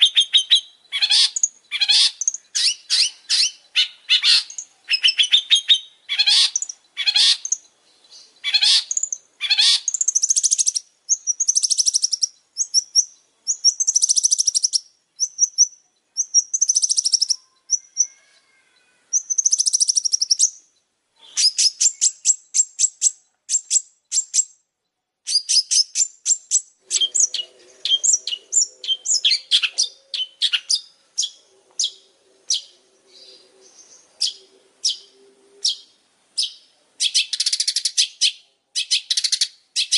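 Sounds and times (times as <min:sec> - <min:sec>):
bird harsh chattering and trills: 0:00.0 - 0:18.2, 0:19.1 - 0:24.6, 0:25.3 - 0:39.9.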